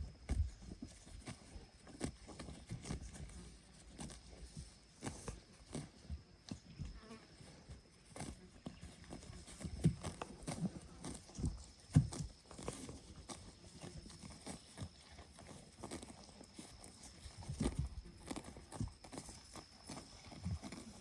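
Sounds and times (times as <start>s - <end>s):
hooves on hard ground: 0.0s - 21.0s.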